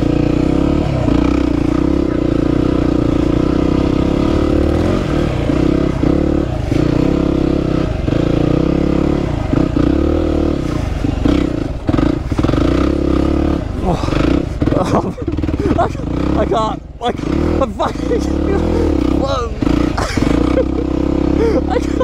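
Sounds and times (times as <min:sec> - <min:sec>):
motorcycle engine pulling hard: 0:00.0 - 0:22.0.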